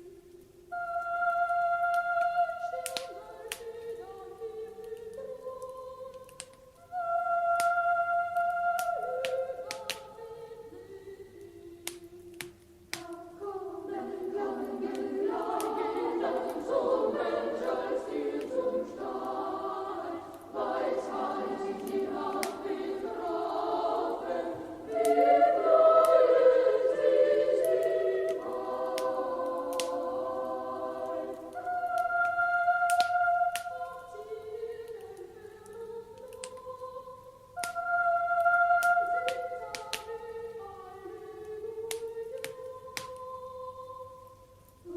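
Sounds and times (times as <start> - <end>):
choir singing: 0.0 - 12.2, 12.9 - 44.9
wood fire crackling: 0.0 - 44.9.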